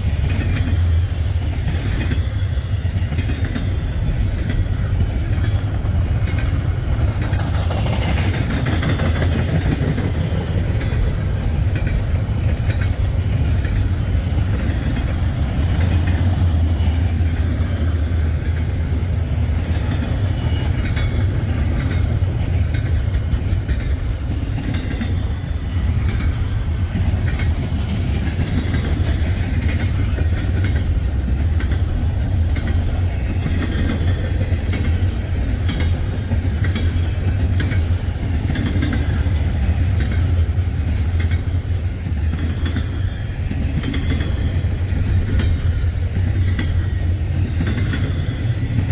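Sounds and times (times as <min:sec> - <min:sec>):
freight train cars rumbling: 0:00.0 - 0:48.9
wheels clicking over rail joints: 0:00.0 - 0:48.9.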